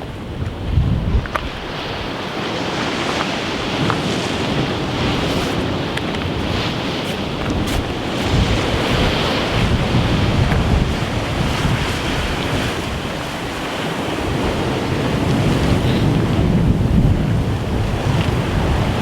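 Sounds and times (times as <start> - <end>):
sea waves washing against rocks: 0.0 - 19.0
wind blowing across microphone: 0.0 - 19.0.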